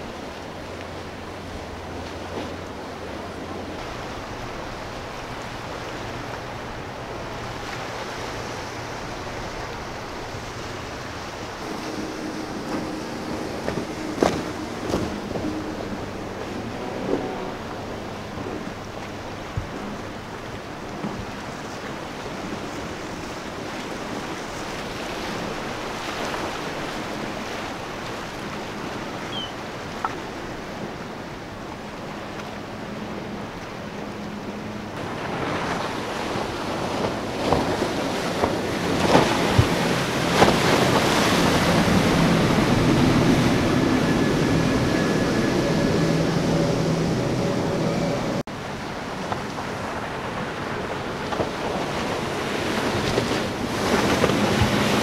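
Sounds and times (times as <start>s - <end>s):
powerboat engines droning: 0.0s - 55.0s
surf and wake wash: 0.0s - 55.0s
wind rumbling on microphone: 0.0s - 55.0s.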